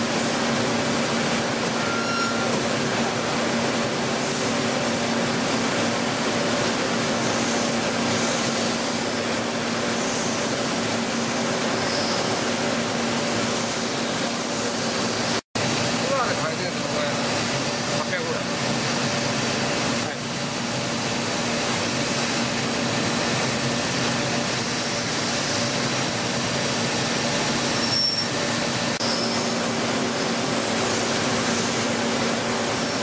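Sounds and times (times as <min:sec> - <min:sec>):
high machine whine: 0:00.0 - 0:33.0.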